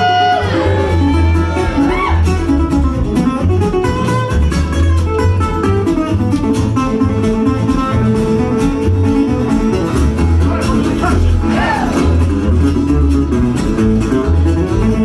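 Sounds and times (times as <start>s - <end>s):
resonator guitar picking notes: 0.0s - 15.0s
steady low bass line: 0.0s - 15.0s.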